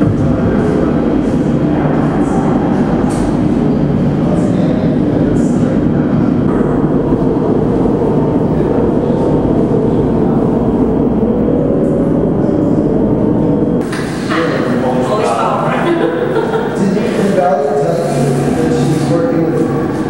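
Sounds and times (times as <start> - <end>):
loud mechanical rumble: 0.0 - 20.0.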